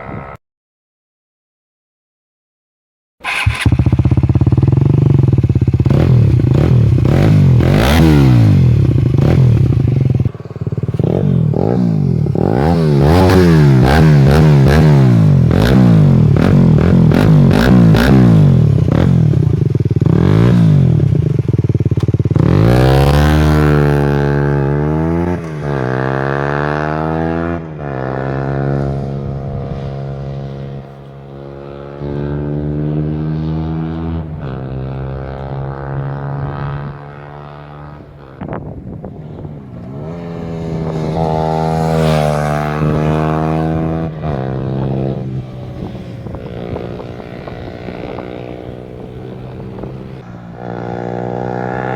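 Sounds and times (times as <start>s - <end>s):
motorcycle engine revving: 3.2s - 51.9s.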